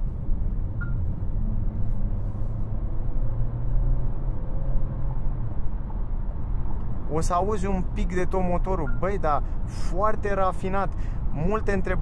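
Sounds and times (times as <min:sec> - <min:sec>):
low road hum: 0:00.0 - 0:12.0.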